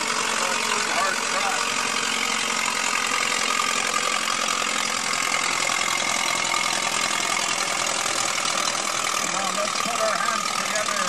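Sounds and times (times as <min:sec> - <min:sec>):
tractor engine clattering: 0:00.0 - 0:11.0.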